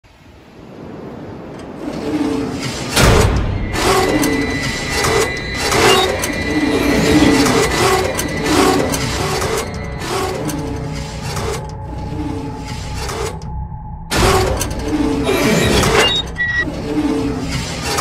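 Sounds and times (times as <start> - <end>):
background music: 2.9 - 18.0.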